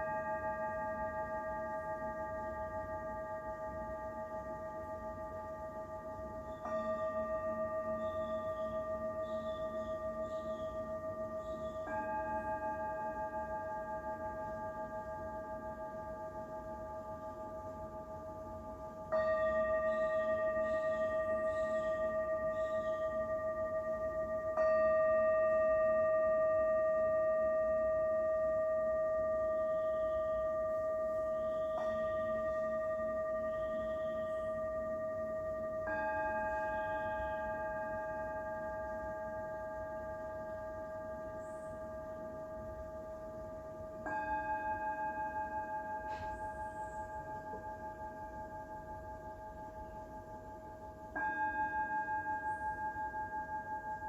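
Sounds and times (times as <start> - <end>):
singing bowls ringing: 0.0 - 54.0.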